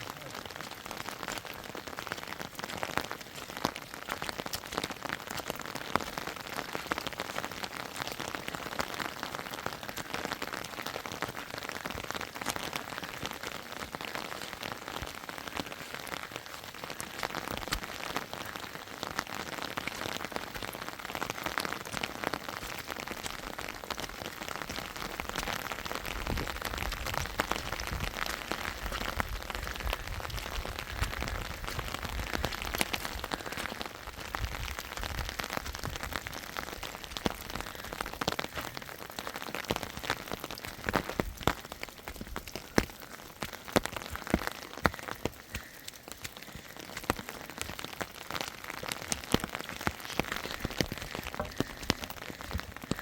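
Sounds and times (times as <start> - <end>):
rain drops ticking on a surface: 0.0 - 53.0.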